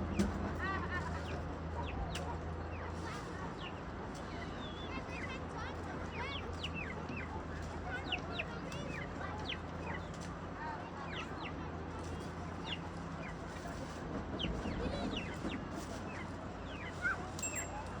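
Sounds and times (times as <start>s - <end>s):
birds chirping: 1.1s - 18.0s.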